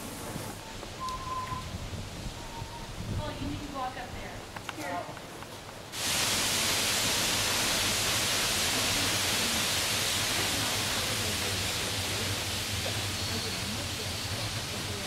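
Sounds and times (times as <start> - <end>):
loud steady hiss: 0.0 - 4.0, 5.8 - 15.0.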